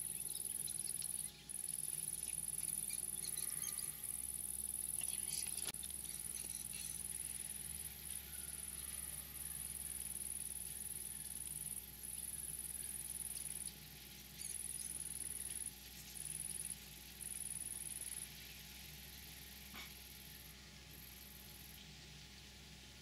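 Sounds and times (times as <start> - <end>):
insect buzzing song: 0.0 - 21.9
faint low hum: 0.0 - 23.0.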